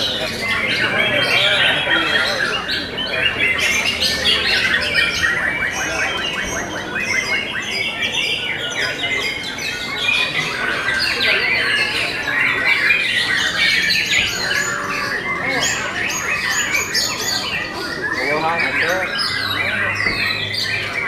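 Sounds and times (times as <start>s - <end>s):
birds singing: 0.0s - 21.0s.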